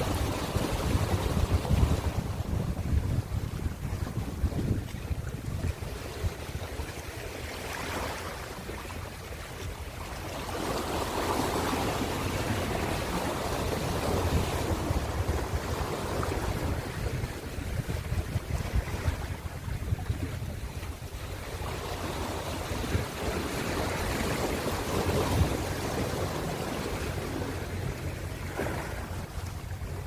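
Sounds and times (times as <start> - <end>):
ocean waves breaking: 0.0 - 30.0
wind rumbling on microphone: 0.0 - 30.0.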